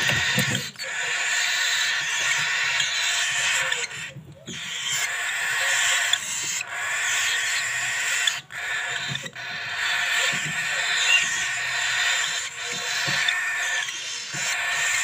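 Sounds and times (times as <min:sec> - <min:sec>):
bird chicks begging calls: 0:00.0 - 0:15.0.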